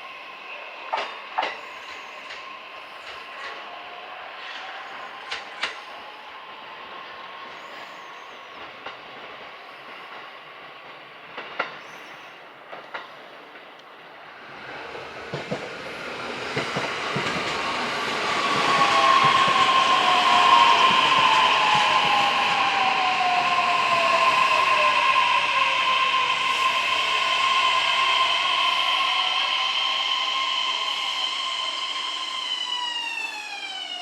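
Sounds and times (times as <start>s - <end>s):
electric train inverter whine: 0.0s - 10.3s, 13.8s - 34.0s.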